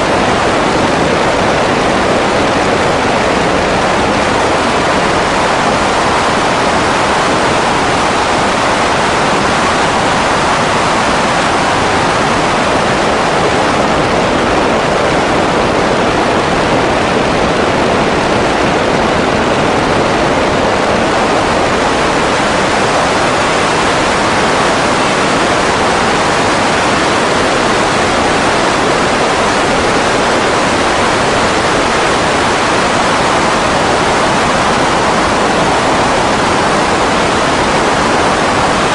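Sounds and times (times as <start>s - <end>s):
seaplane engine and propeller roar: 0.0s - 38.9s.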